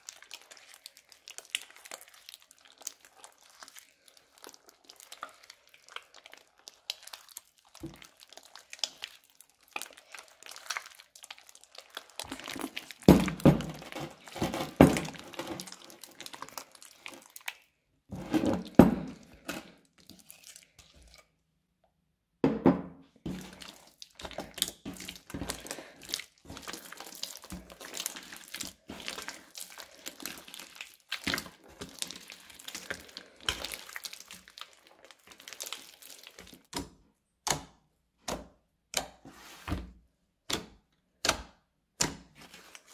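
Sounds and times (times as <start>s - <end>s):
slime squishing by hand: 0.0s - 21.4s, 23.2s - 42.9s.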